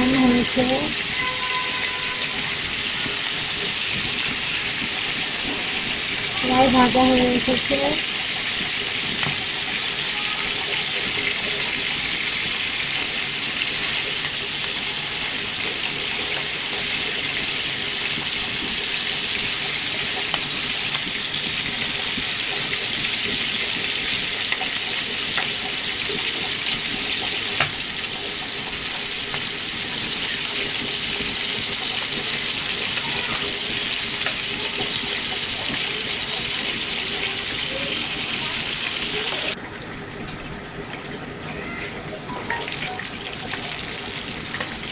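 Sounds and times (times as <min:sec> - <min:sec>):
chicken sizzling in oil: 0:00.0 - 0:44.9.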